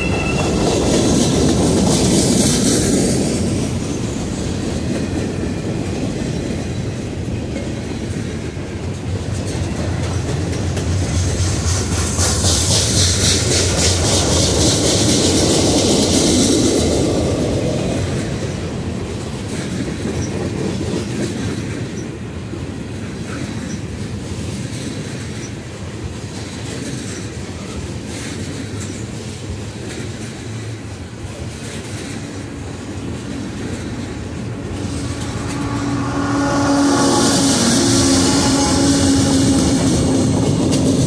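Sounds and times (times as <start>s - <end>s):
locomotive engine: 0.0s - 24.2s, 25.0s - 41.0s
train wheels rumbling on rail: 0.0s - 41.0s.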